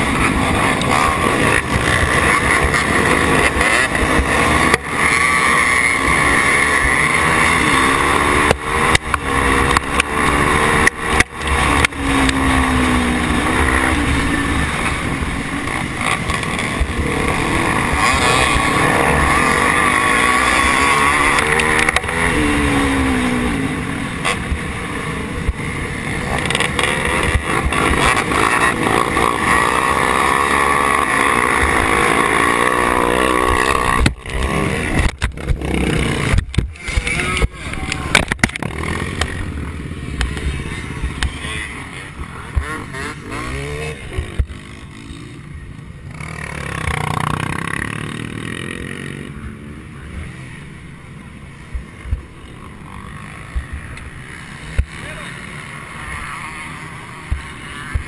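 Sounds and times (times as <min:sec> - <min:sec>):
dirt bike engine revving: 0:00.0 - 0:58.0
dirt bikes racing: 0:00.0 - 0:58.0.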